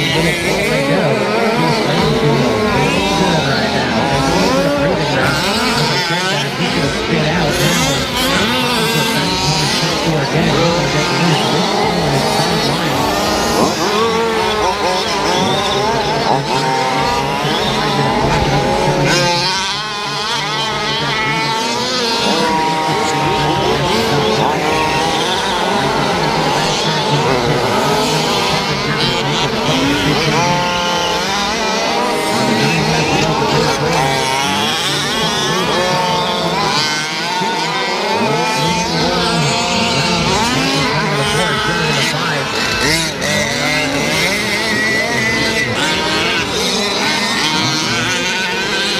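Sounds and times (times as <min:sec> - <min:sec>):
small two-stroke engines revving: 0:00.0 - 0:48.9.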